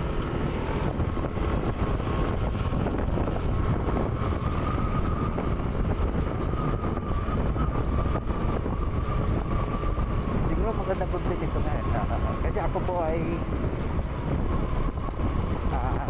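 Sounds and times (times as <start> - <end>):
vehicle driving drone: 0.0 - 16.0
wind buffeting microphone: 0.0 - 16.0
thin steady whine: 1.0 - 16.0.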